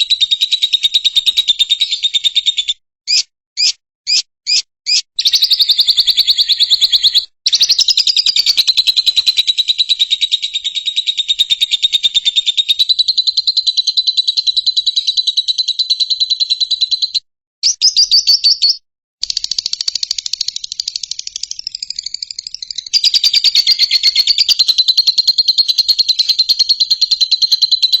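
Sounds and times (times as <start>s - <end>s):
bird chattering trill: 0.0s - 28.0s.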